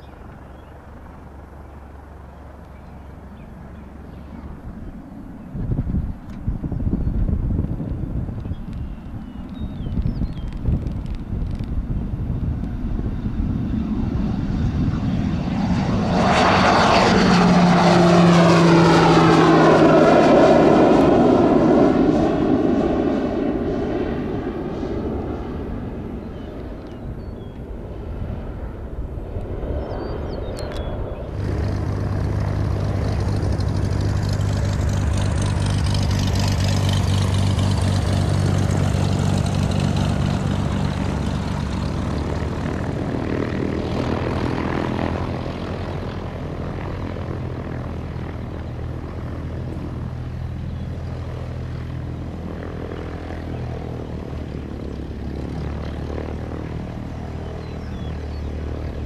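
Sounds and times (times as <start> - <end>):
jet engines rumbling on approach: 0.0 - 59.0
turboprop plane climbing: 0.0 - 59.0.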